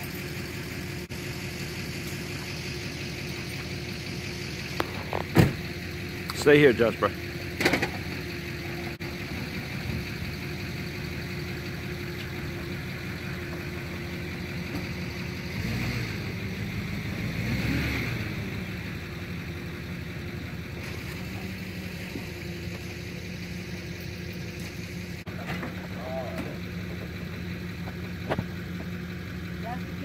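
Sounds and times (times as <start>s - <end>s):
engine idling and revving: 0.0s - 30.0s.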